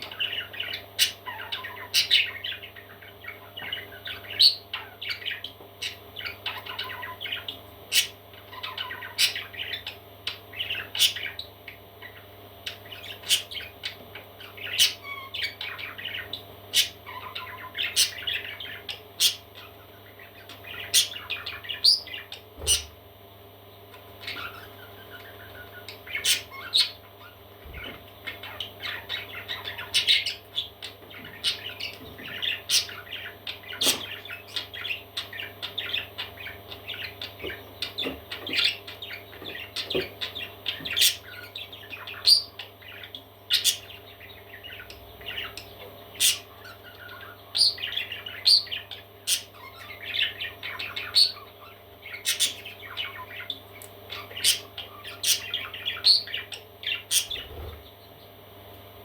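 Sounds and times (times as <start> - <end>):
parrot chicks chirping and squawking: 0.0 - 59.0.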